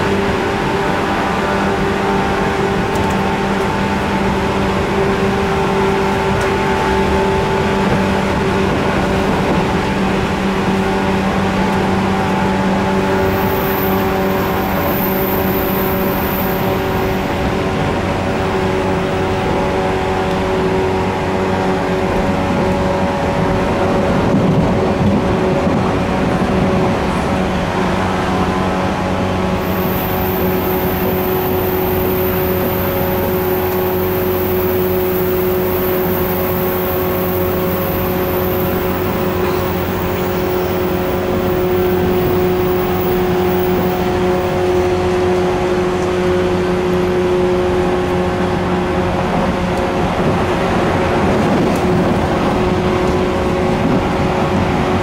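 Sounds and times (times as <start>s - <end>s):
electric train motor whine: 0.0s - 55.0s
wheel-on-rail rumble: 0.0s - 55.0s.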